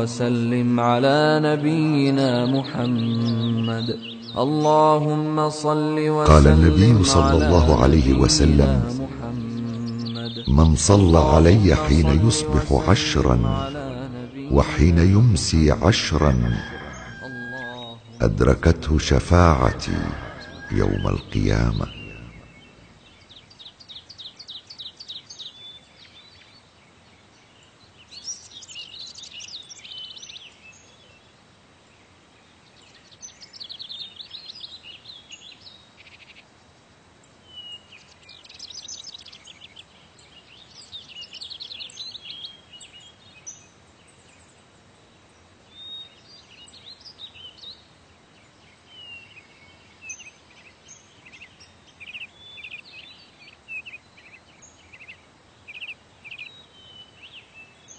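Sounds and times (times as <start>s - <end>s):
birds chirping trills: 0.0s - 57.9s.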